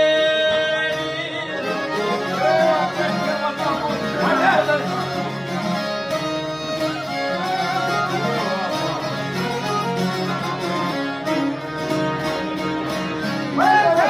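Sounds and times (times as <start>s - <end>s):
plucked string accompaniment: 0.0s - 14.0s
violin melody: 0.0s - 14.0s.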